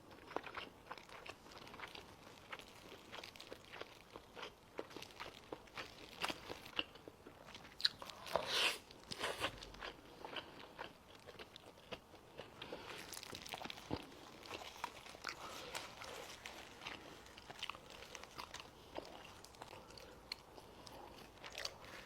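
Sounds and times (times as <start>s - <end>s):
chewing and biting: 0.1s - 22.0s.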